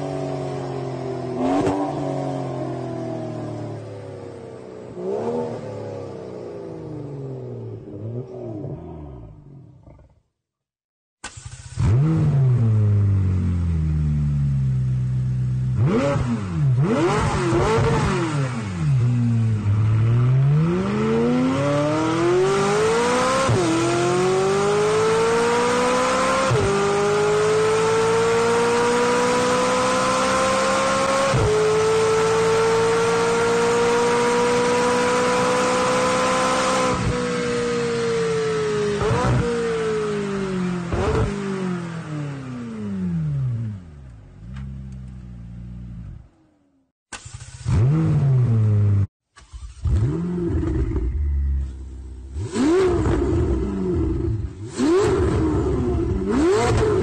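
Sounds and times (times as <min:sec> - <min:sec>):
sports car accelerating through gears: 0:00.0 - 0:09.7, 0:11.4 - 0:46.0, 0:47.3 - 0:57.0
car engine revving: 0:00.0 - 0:10.0, 0:11.2 - 0:46.6, 0:47.2 - 0:57.0.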